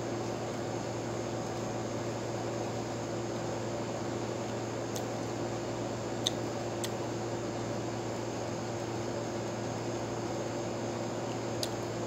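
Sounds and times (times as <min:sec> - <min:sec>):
background hiss with low hum: 0:00.0 - 0:12.0.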